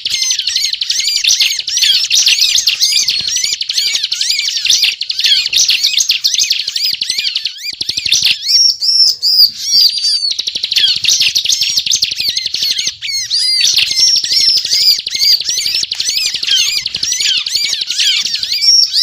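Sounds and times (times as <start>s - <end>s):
bird chattering song: 0.0s - 19.0s.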